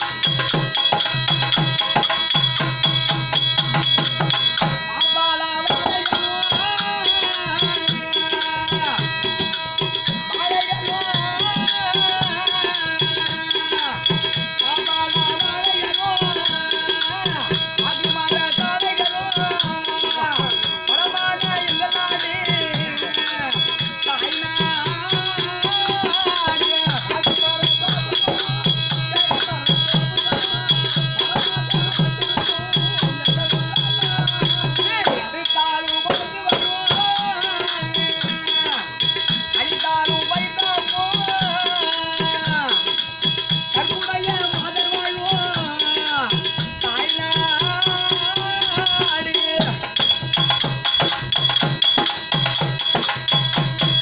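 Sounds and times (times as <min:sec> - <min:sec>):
harmonium melody: 0:00.0 - 0:54.0
tabla drums in fast rhythm: 0:00.0 - 0:54.0.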